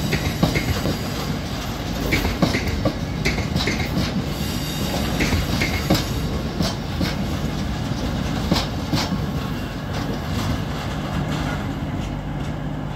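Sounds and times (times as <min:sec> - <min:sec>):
train wheels clacking over rail joints: 0:00.0 - 0:12.9.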